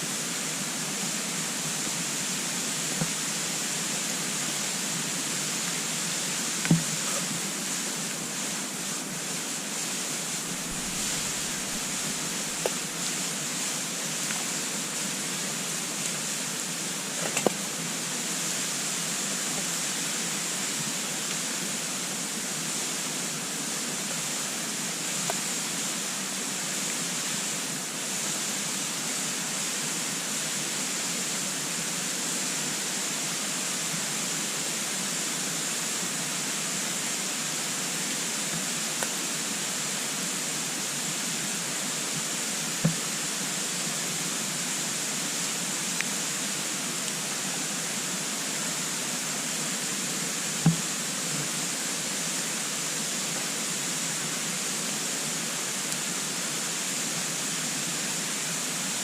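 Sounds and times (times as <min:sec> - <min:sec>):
wood stove fire hissing: 0:00.0 - 0:59.0.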